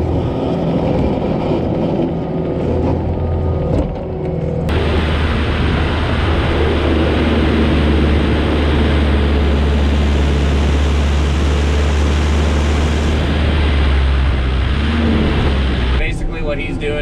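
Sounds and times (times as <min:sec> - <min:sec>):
diesel engine low drone: 0:00.0 - 0:17.0.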